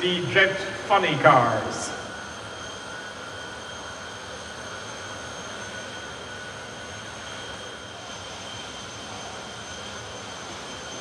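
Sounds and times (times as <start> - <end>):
faint high whine: 0.0 - 11.0
jet engines idling: 0.0 - 11.0.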